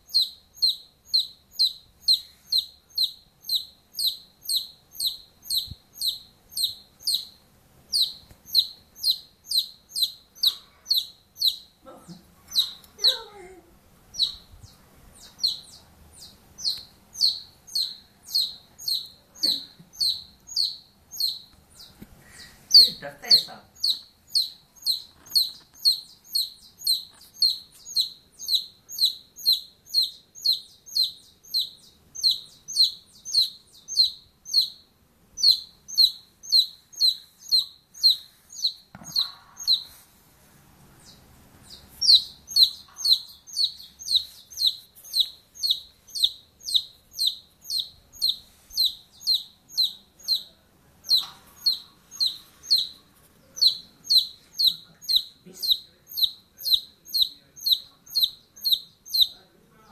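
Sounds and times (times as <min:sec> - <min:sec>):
bird chirping: 0:00.0 - 0:40.2, 0:40.8 - 0:59.9.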